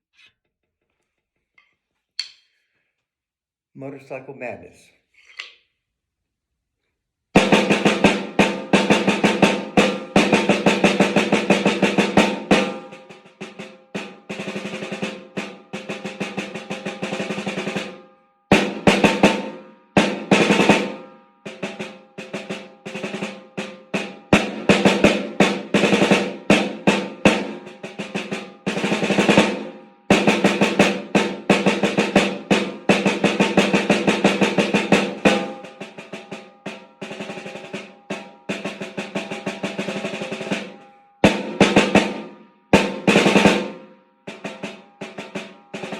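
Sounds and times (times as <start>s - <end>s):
snare drum rolls: 7.4s - 45.9s.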